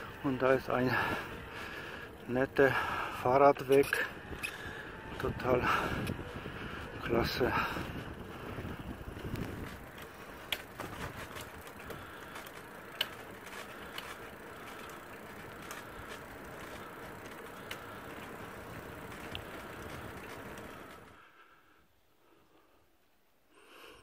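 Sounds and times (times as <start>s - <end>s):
trailer clicks and rattles: 0.0s - 21.2s
bicycle tyres rolling on pavement: 0.0s - 21.8s.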